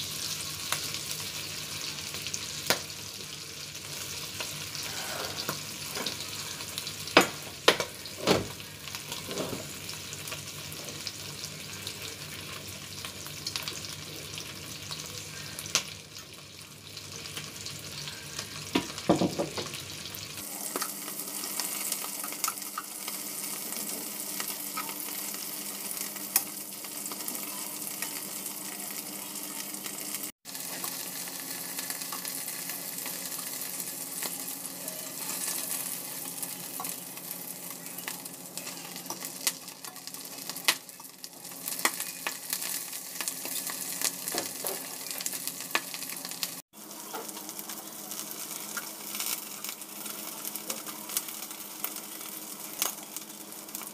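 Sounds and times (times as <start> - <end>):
prawns sizzling in a pan: 0.0 - 53.9.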